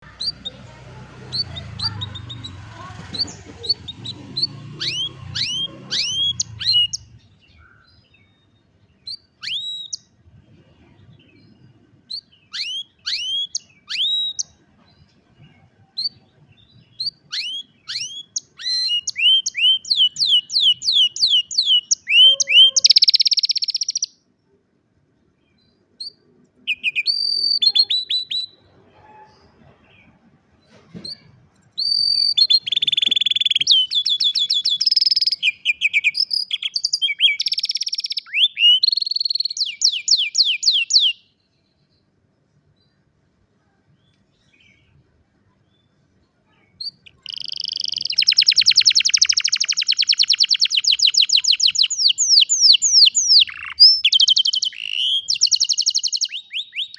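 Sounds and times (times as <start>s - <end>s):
canary singing: 0.0s - 10.2s, 11.1s - 14.6s, 15.5s - 24.2s, 26.0s - 29.5s, 31.0s - 41.4s, 46.8s - 56.9s.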